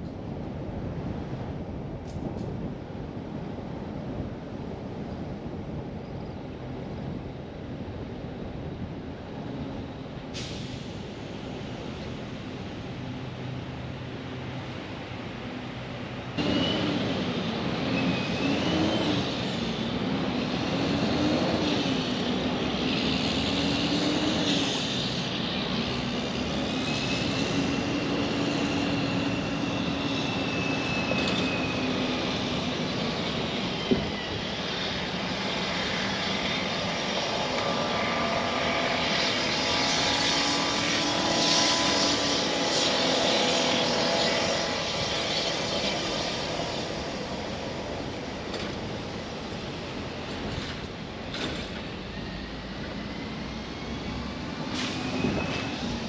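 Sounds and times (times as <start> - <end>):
road noise: 0.0 - 56.0
engine drone: 6.4 - 56.0.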